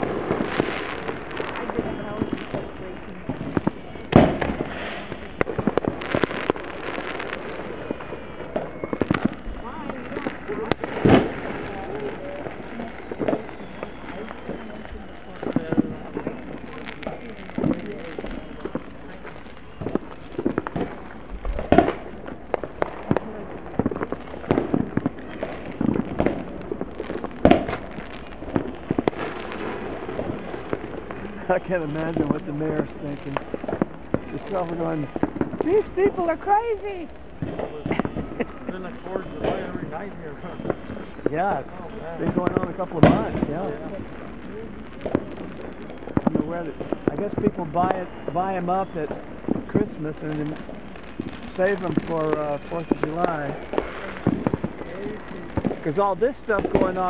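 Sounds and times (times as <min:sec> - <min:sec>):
distant firework boom: 0:00.0 - 0:52.0
firework pops and crackles: 0:00.0 - 0:57.0.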